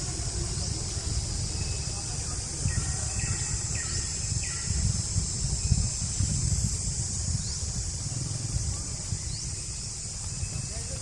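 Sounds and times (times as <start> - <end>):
insects droning: 0.0 - 11.0
wind on microphone: 0.0 - 11.0.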